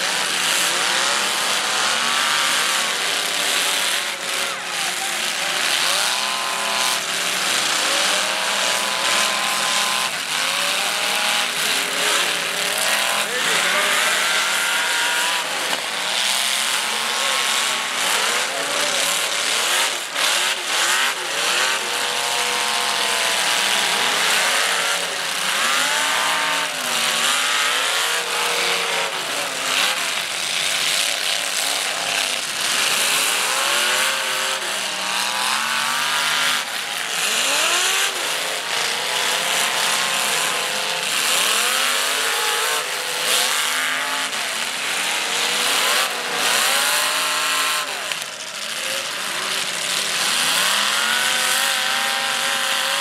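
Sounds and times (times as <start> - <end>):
race car engines revving: 0.0 - 53.0.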